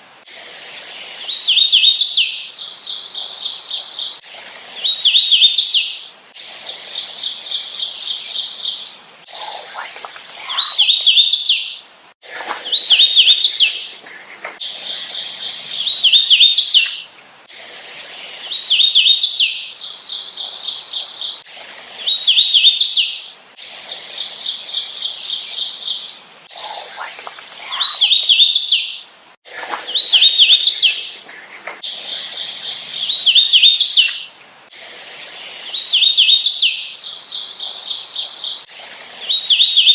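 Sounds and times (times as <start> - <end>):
warbler singing: 0.8 - 6.1, 6.7 - 17.2, 18.0 - 21.4, 24.1 - 34.4, 35.3 - 39.9.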